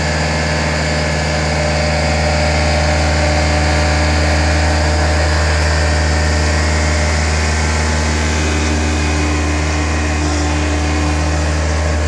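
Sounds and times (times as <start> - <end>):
ride-on sweeper running: 0.0 - 12.0.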